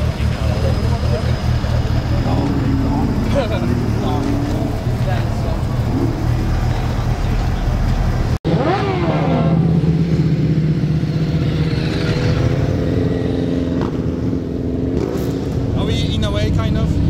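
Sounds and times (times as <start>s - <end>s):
motorcycles revving past: 0.0s - 15.8s.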